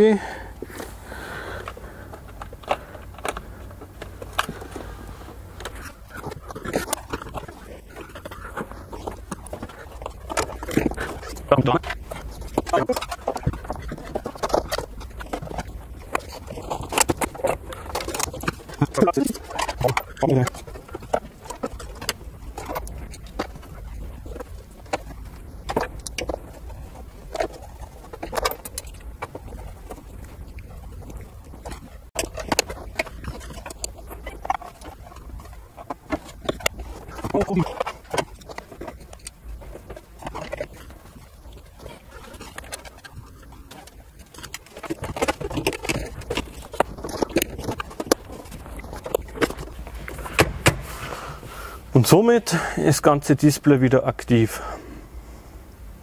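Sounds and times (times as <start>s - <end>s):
low steady hum: 0.0s - 56.0s
cable harness rattling: 1.6s - 52.1s.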